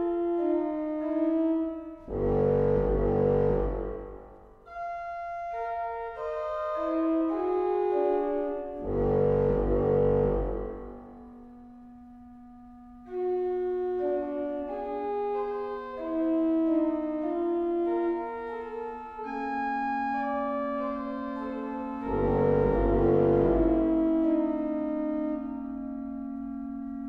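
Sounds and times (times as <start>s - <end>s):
pipe organ playing: 0.0s - 11.3s, 13.0s - 27.0s.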